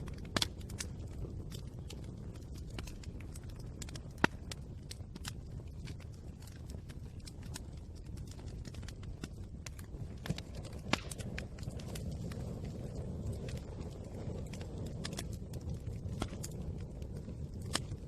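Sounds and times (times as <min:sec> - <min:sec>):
fire crackling: 0:00.0 - 0:18.0
fire popping: 0:00.0 - 0:18.0
low rumble of flames: 0:00.0 - 0:18.0.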